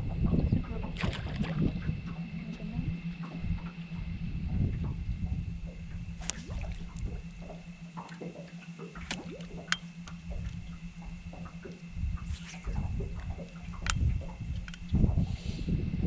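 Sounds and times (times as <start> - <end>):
faint high whine: 0.0 - 16.0
steady low hum: 0.0 - 16.0.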